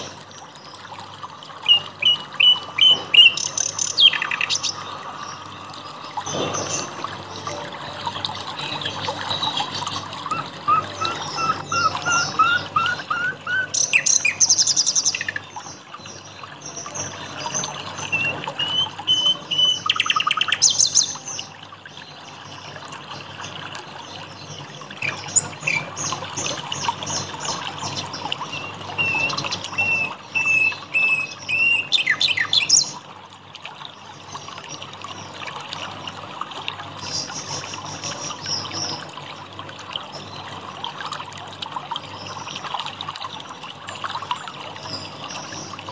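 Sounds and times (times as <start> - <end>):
songbirds chirping and singing: 0.0 - 33.1, 33.9 - 42.7
trickling water: 0.0 - 45.9.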